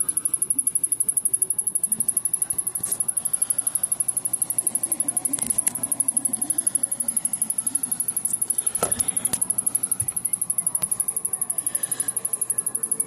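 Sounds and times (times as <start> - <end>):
power supply ticking rapidly: 0.0 - 13.0.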